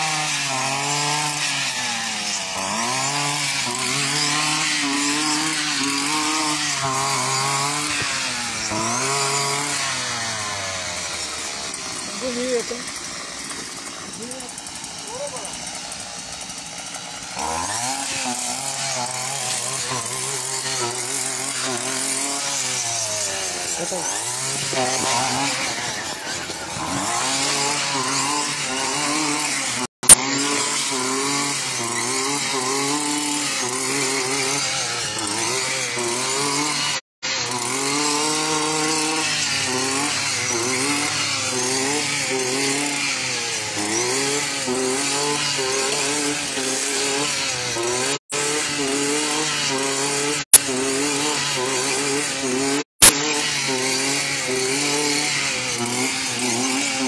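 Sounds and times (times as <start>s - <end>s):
brushcutter engine revving: 0.0s - 57.0s.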